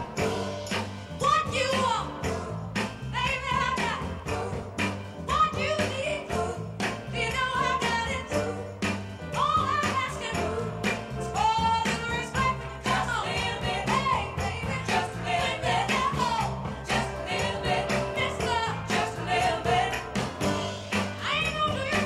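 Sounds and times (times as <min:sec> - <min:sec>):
song with sung vocals over beat: 0:00.0 - 0:22.0.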